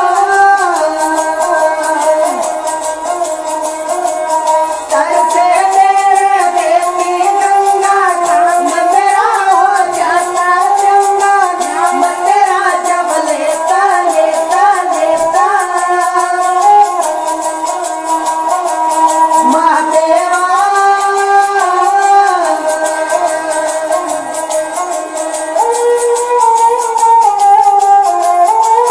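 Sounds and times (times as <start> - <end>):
fast ticking beat: 0.0 - 28.9
high voice singing: 0.0 - 28.9.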